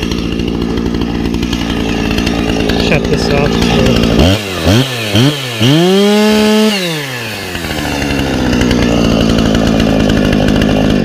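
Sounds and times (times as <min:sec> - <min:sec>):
chainsaw revving and idling: 0:00.0 - 0:11.0.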